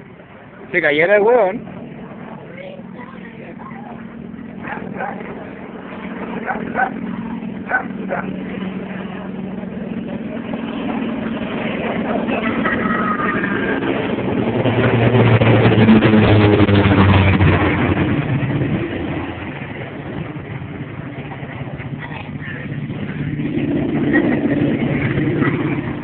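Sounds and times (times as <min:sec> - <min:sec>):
airplane engines passing overhead: 0:00.0 - 0:26.0.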